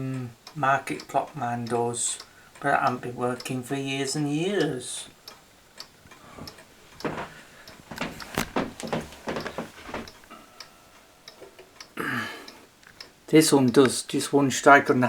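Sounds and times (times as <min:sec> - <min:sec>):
wall clock ticking: 0:00.0 - 0:15.0.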